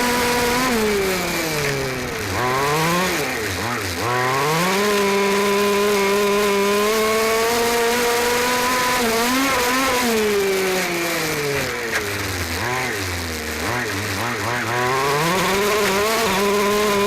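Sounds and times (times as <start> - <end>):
small two-stroke engine revving: 0.0 - 17.0.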